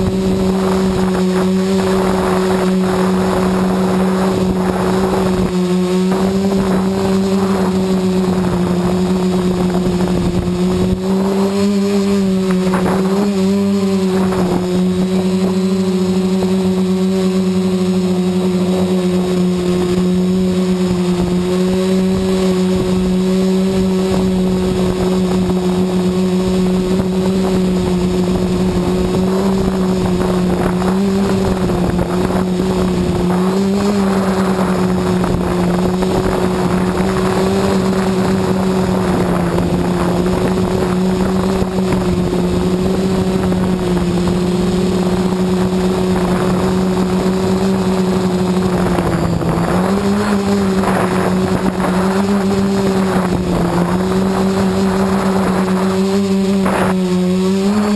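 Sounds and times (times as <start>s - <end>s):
drone propellers buzzing: 0.0s - 57.9s.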